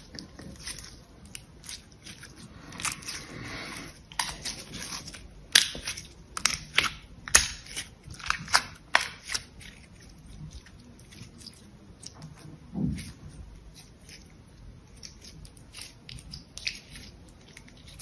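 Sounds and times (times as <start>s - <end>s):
soap crackling and squelching: 0.0s - 18.0s.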